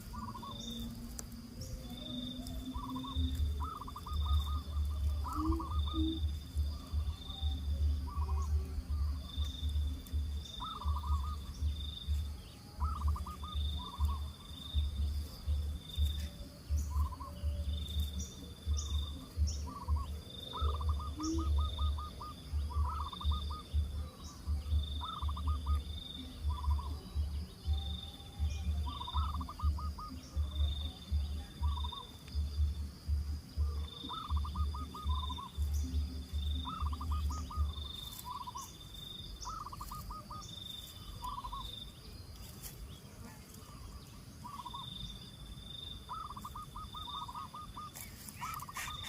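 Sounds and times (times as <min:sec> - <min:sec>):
short trilling calls: 0:00.0 - 0:32.7, 0:33.6 - 0:42.0, 0:42.6 - 0:49.0
low pulsing animal call: 0:00.0 - 0:42.1, 0:43.6 - 0:49.0
high insect-like buzz: 0:00.0 - 0:49.0.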